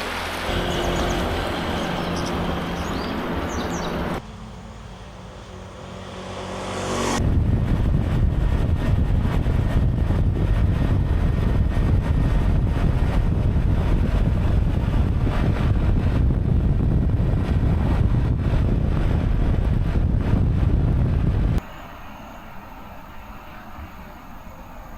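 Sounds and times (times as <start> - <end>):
road and engine noise: 0.0 - 24.9
wind buffeting microphone: 0.5 - 21.8.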